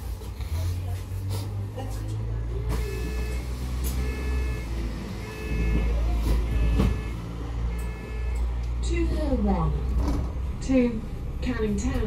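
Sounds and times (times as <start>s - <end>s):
bus engine humming: 0.0s - 12.0s.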